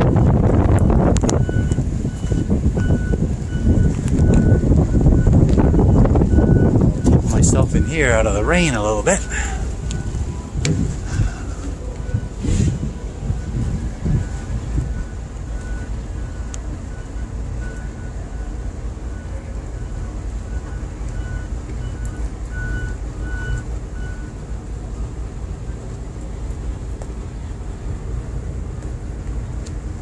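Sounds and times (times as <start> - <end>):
diesel engine rumble: 0.0 - 30.0.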